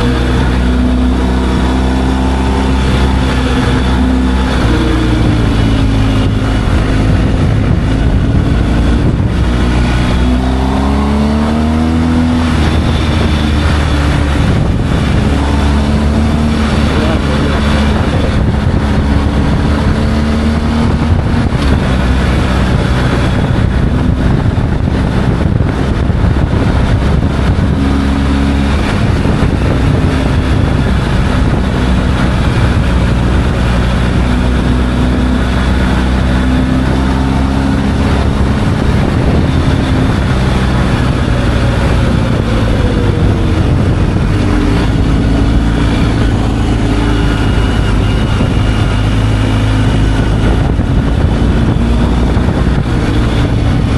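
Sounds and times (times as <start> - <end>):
motorcycle engine running: 0.0 - 53.9
wind rushing: 0.0 - 53.9.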